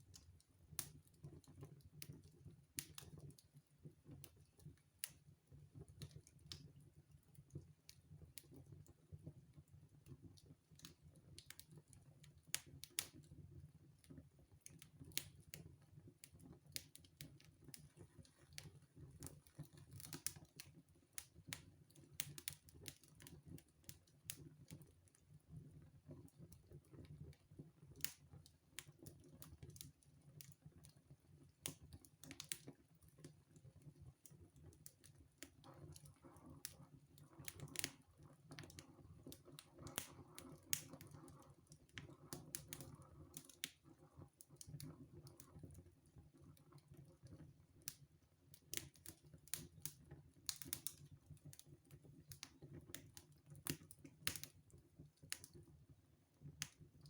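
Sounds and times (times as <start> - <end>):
wood fire crackling: 0.0 - 9.2, 9.8 - 25.4, 26.1 - 55.8.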